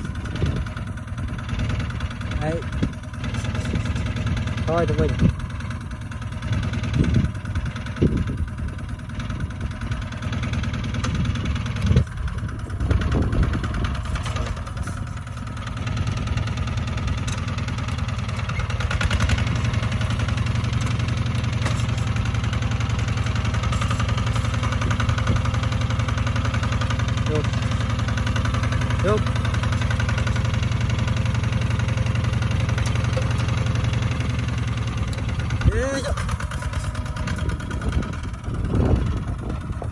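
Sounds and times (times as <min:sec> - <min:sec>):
diesel walking tractor engine: 0:00.0 - 0:39.9
engine knock: 0:00.0 - 0:39.9.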